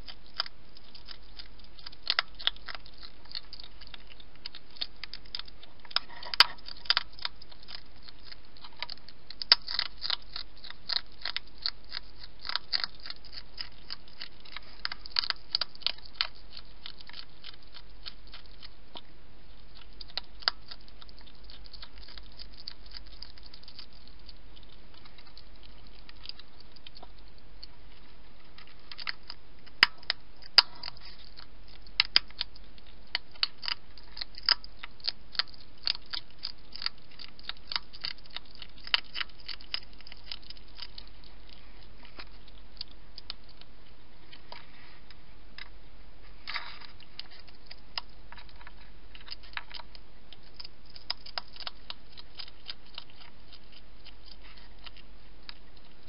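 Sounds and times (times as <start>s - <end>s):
hedgehog crunching food: 0.0s - 56.0s.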